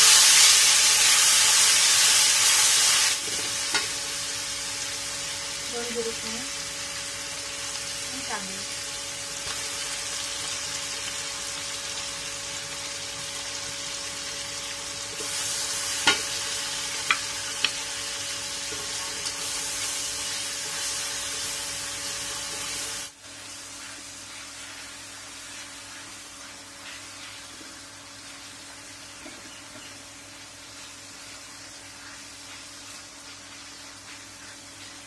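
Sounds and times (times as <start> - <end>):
paste sizzling in hot oil: 0.0 - 29.3, 29.9 - 35.0.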